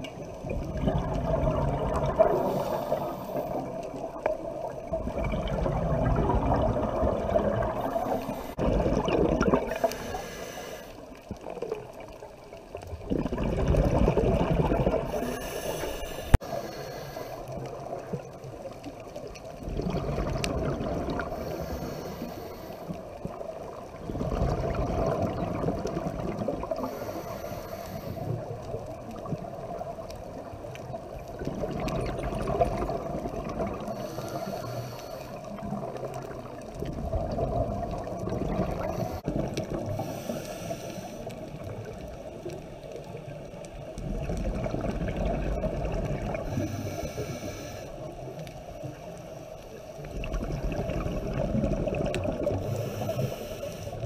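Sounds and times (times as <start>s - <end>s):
underwater exhaled breath bubbles: 0.0s - 49.2s, 50.0s - 54.0s.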